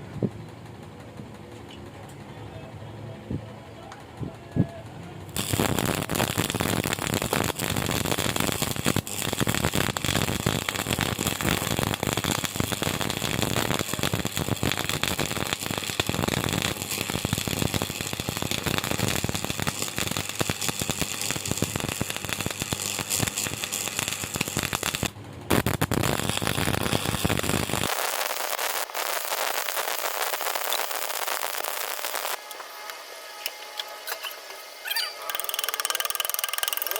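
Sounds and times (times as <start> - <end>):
welding arc crackling: 5.3 - 36.9.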